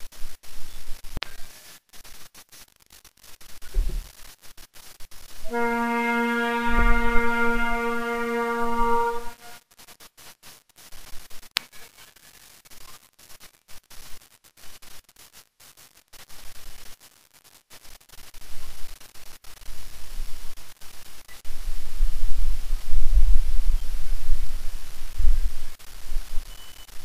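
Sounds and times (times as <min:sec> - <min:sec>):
faint hiss: 0:00.0 - 0:27.0.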